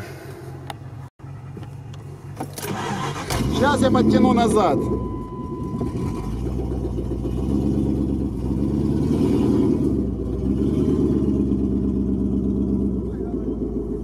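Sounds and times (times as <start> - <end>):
vehicle engine revving: 2.4 - 14.0.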